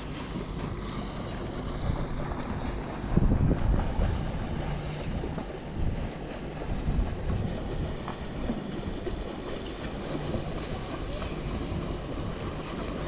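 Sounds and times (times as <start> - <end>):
water washing at dock: 0.0 - 13.0
wind buffeting microphone: 0.0 - 13.0.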